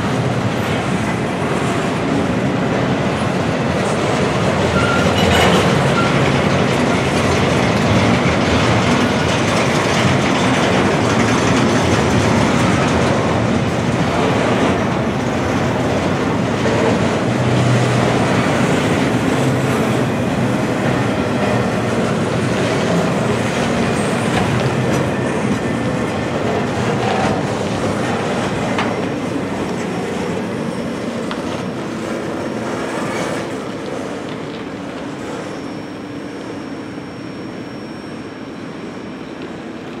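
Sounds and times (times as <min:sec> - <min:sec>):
train wheels clattering on rails: 0:00.0 - 0:38.2.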